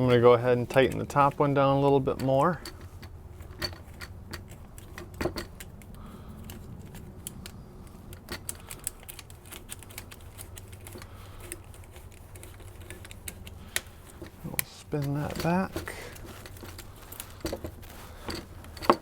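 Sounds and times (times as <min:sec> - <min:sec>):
hose clamp clicking: 0:00.0 - 0:19.0
steady low hum: 0:00.0 - 0:19.0.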